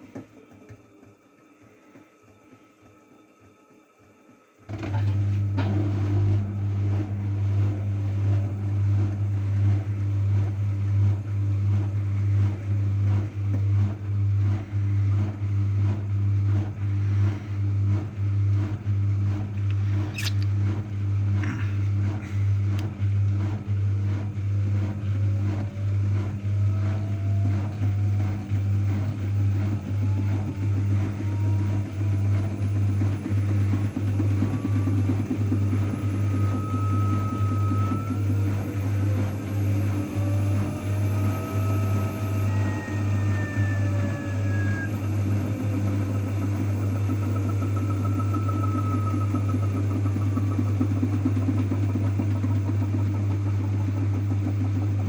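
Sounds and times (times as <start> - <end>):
washing machine spinning: 0.0 - 55.0
rising motor whine: 2.2 - 20.3, 20.9 - 55.0.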